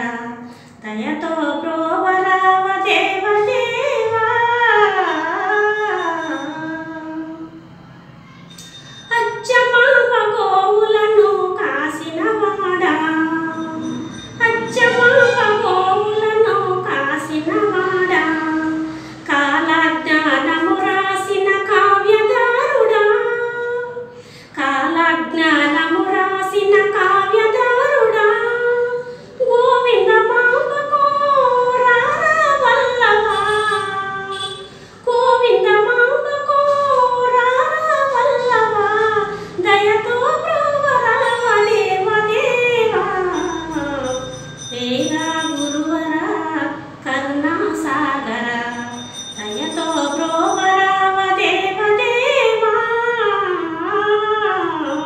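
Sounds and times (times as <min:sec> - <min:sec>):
woman singing unaccompanied: 0:00.0 - 0:07.6, 0:09.1 - 0:55.0.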